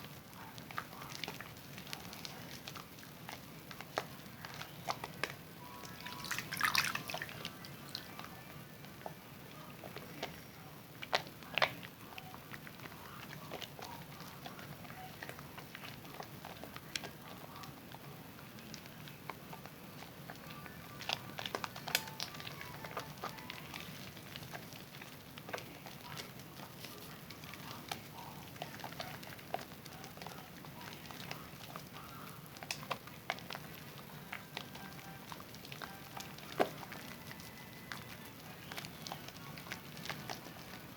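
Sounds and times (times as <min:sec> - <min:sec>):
soap lathering wet squishing: 0:00.0 - 0:40.9.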